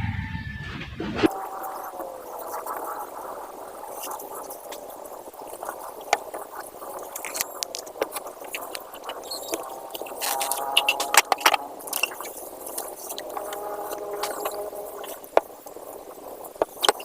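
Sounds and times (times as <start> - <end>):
kinetic sand hissing and crunching: 1.3 - 17.0.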